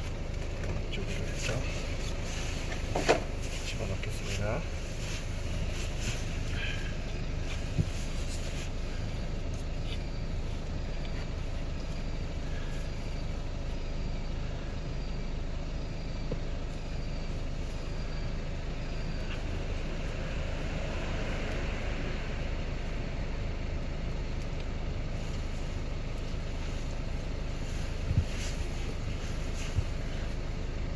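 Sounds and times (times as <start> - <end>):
low vehicle-like rumble: 0.0 - 30.9.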